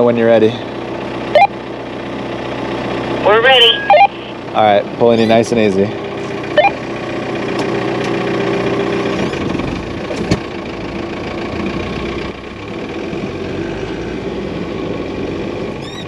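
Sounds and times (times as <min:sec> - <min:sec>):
truck engine running under load: 0:00.0 - 0:16.0.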